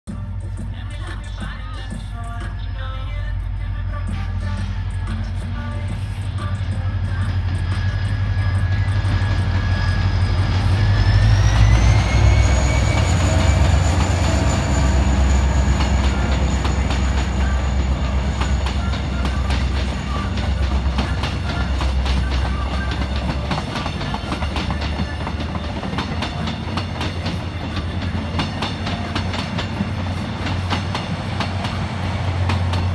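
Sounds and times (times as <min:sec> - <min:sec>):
diesel locomotive engine rumble: 0:00.1 - 0:32.9
high engine whine: 0:00.1 - 0:32.9
train wheels clicking over rail joints: 0:05.0 - 0:32.9.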